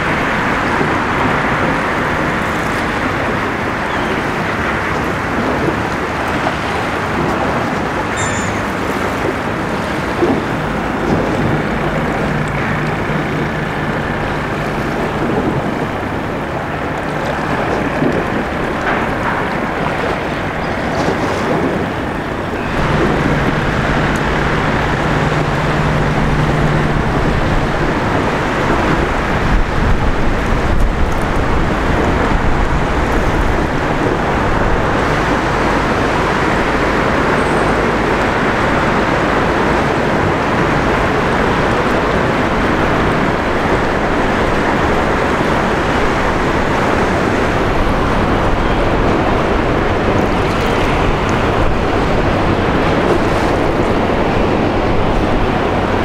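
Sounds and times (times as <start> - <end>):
ship engine hum: 0.0 - 56.0
water wash: 0.0 - 56.0
wind: 0.0 - 56.0.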